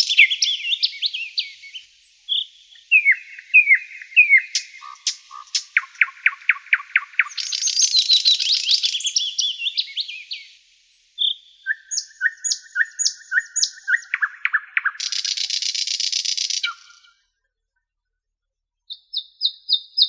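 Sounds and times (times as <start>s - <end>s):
songbirds singing: 0.0s - 17.2s, 18.9s - 20.0s.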